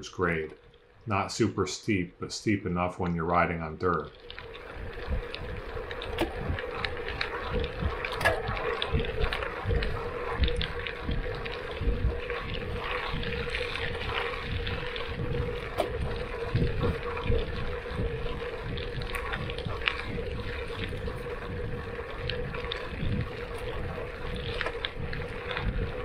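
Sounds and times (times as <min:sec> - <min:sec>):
faint steady hum: 0:00.0 - 0:26.0
wind on microphone: 0:04.2 - 0:26.0.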